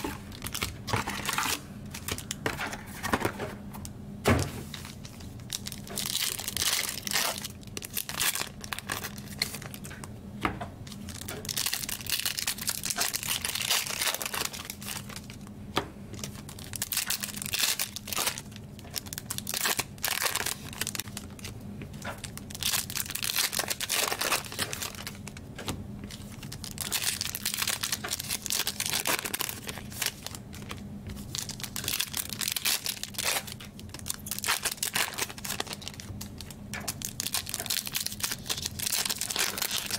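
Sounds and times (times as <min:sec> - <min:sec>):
packaging crinkling and tearing: 0:00.0 - 0:03.3, 0:04.7 - 0:10.1, 0:10.9 - 0:15.5, 0:16.2 - 0:39.9.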